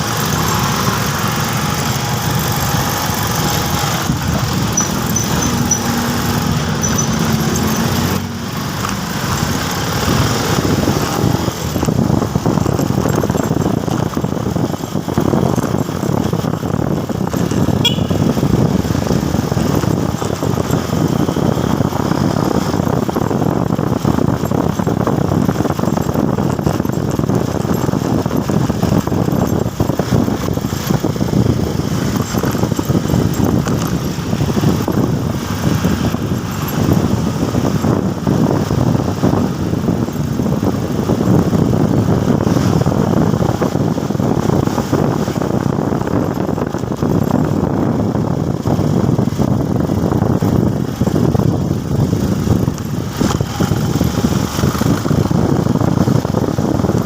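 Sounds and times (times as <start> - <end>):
motorcycle riding: 0.0 - 57.0.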